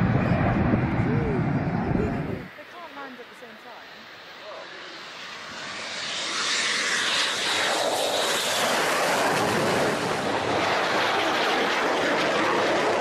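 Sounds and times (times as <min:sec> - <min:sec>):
jet aircraft flying low: 0:00.0 - 0:13.0.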